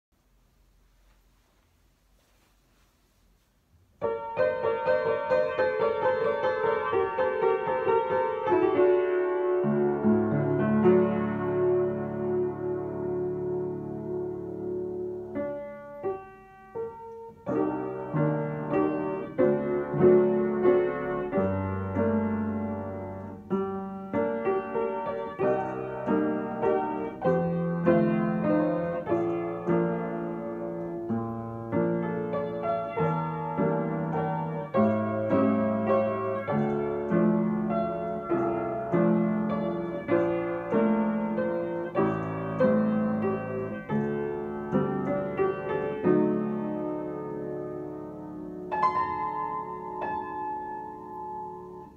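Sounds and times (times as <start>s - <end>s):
upright piano playing: 4.0s - 51.9s.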